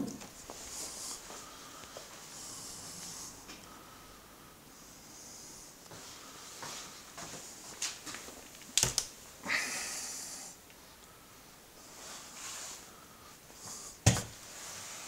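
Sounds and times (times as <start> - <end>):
close breathing: 0.4 - 7.7, 9.4 - 15.0.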